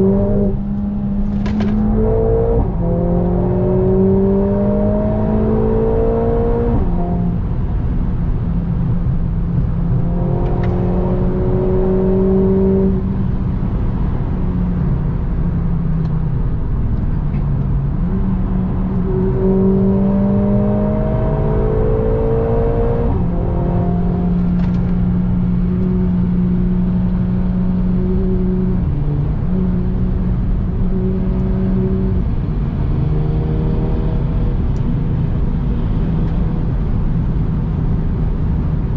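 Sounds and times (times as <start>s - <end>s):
car engine accelerating: 0.0s - 38.9s
road and tyre noise: 0.0s - 38.9s.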